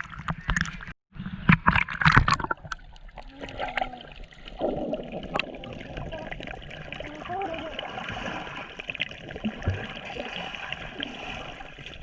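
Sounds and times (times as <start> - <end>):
water splashing and gurgling: 0.0 - 12.0.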